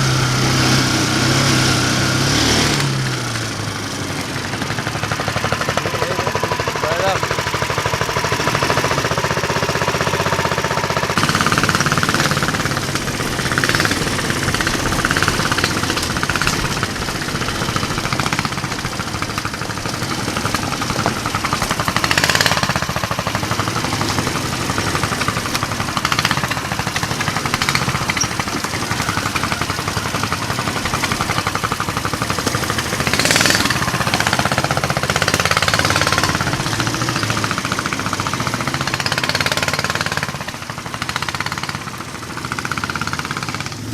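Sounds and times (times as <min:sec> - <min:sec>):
small engine running hard: 0:00.0 - 0:43.9.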